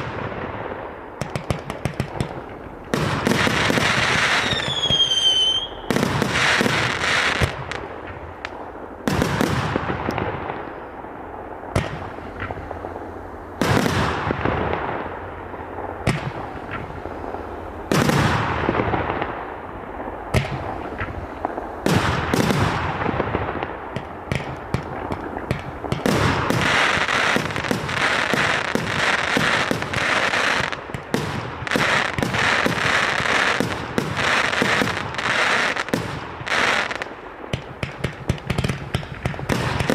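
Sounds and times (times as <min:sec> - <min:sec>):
fireworks bangs: 0:00.0 - 0:39.9
fireworks crackling pops: 0:00.0 - 0:39.9.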